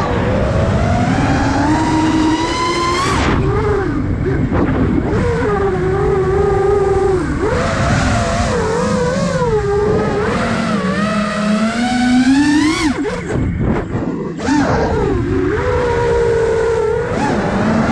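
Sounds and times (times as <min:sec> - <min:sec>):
quadcopter motors whining: 0:00.0 - 0:17.9.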